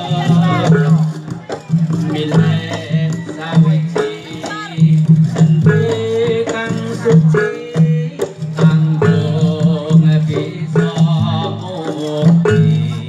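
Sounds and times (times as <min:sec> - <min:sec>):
hand drums: 0:00.0 - 0:13.0
wavering melody: 0:00.0 - 0:13.0.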